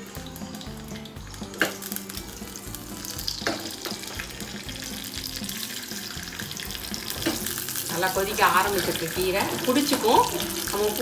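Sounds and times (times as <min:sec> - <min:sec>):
background music: 0:00.0 - 0:11.0
seeds sizzling in hot oil: 0:00.0 - 0:11.0.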